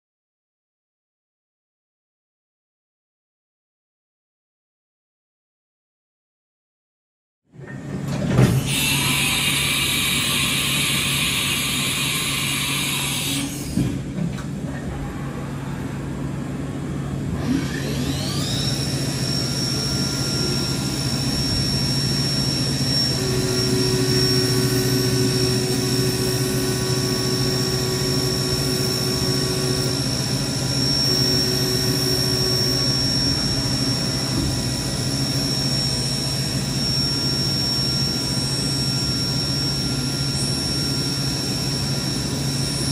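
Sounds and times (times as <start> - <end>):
low machine hum: 7.6 - 42.9
mill spindle whining: 7.6 - 42.9.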